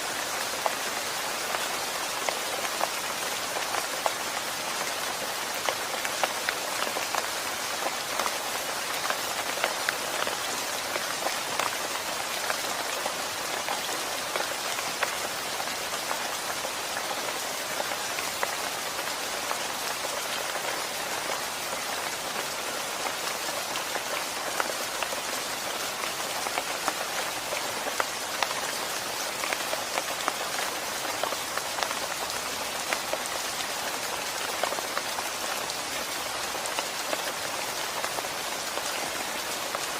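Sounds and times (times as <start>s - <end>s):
raindrops striking a surface: 0.0s - 39.9s
steady rain hiss: 0.0s - 39.9s.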